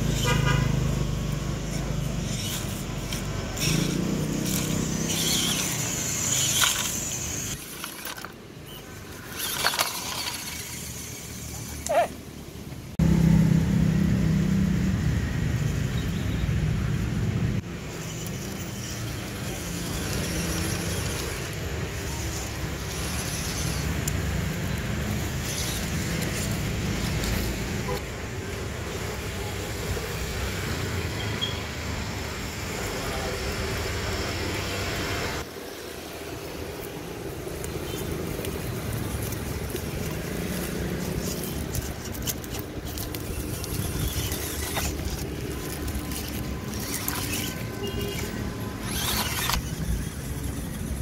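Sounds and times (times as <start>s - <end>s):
small electric motors whirring: 0.0s - 12.1s, 17.6s - 51.0s
road traffic rumble: 0.0s - 51.0s.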